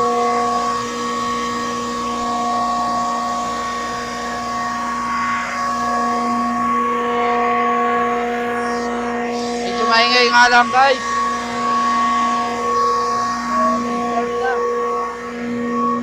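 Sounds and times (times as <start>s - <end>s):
compressor humming with whine: 0.0s - 16.0s.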